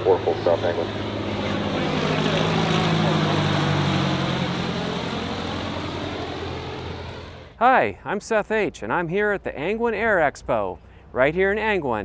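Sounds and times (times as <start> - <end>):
propeller airplane engine droning: 0.0 - 9.9.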